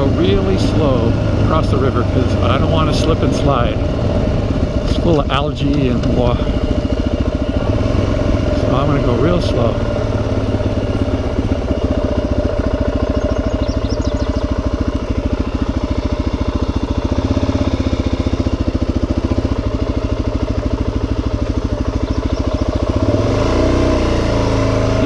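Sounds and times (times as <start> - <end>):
motorcycle engine chugging: 0.0 - 25.0.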